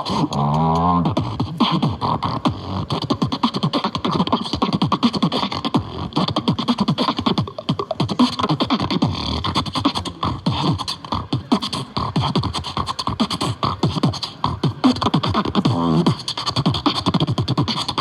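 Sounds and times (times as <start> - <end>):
person beatboxing: 0.0 - 18.0.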